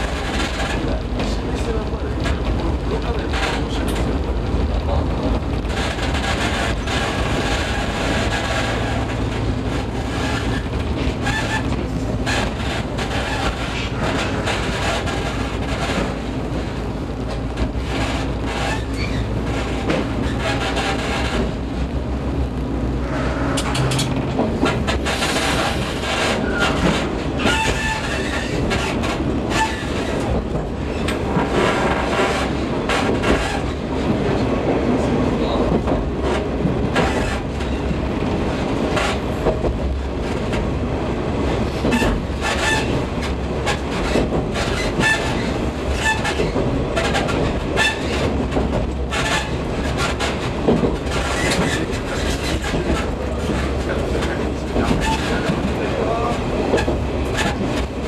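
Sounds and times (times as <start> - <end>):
wheels clicking over rail joints: 0.0 - 22.6, 23.4 - 58.0
railcar engine hum: 0.0 - 58.0.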